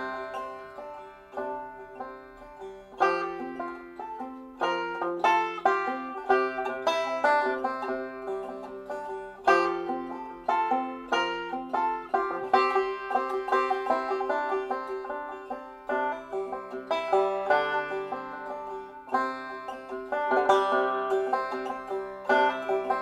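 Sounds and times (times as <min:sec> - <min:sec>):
plucked string music: 0:00.0 - 0:23.0.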